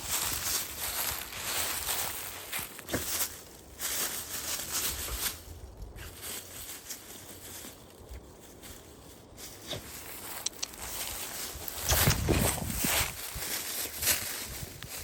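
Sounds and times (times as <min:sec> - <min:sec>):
footsteps crunching on trail: 0:00.0 - 0:15.0.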